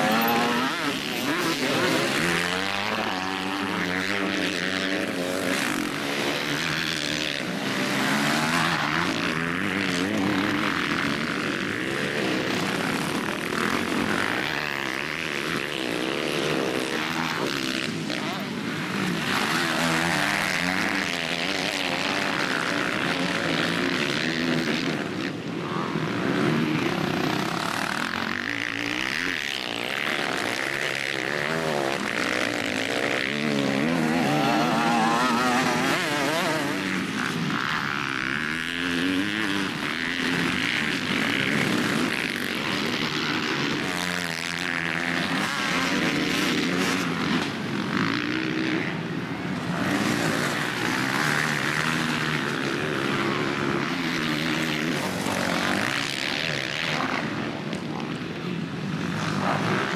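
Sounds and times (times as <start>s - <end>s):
motocross engines revving: 0.0s - 59.9s.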